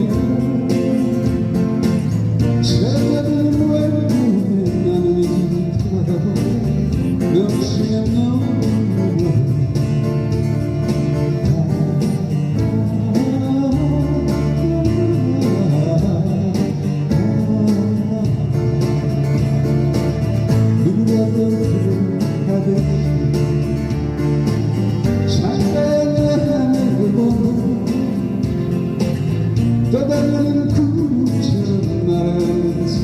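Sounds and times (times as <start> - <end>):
guitar strumming: 0.0 - 33.0
steady bass: 0.0 - 33.0.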